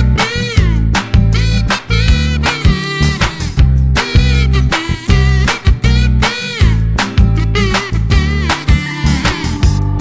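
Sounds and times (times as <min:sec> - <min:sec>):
bass line: 0:00.0 - 0:10.0
steady drumbeat: 0:00.2 - 0:09.8.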